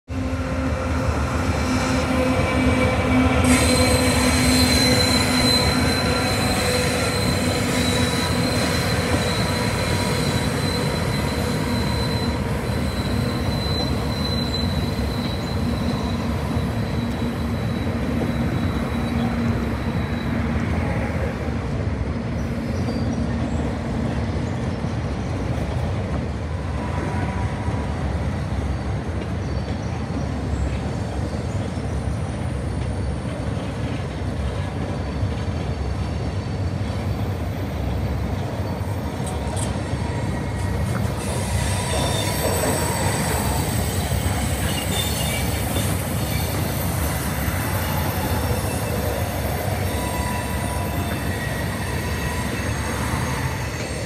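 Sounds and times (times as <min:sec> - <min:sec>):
rumble of train cars on track: 0:00.0 - 0:54.0
train wheels squealing on rails: 0:00.1 - 0:54.0.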